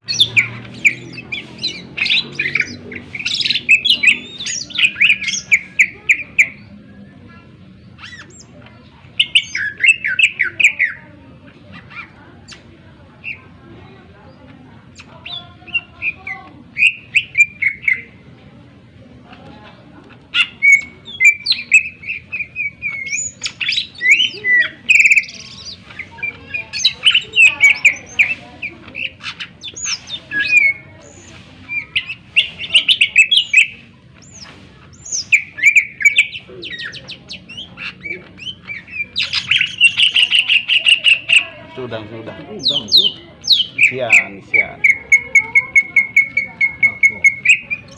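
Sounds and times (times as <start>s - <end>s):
bird singing whistles and trills: 0.1s - 7.2s, 9.2s - 11.0s, 15.0s - 18.2s, 20.4s - 41.4s, 42.6s - 47.9s.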